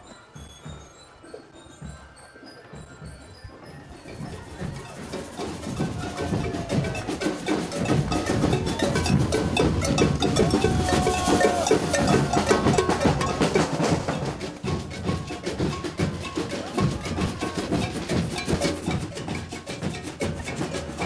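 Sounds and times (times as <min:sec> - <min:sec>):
drums beating loudly: 0:02.7 - 0:21.0.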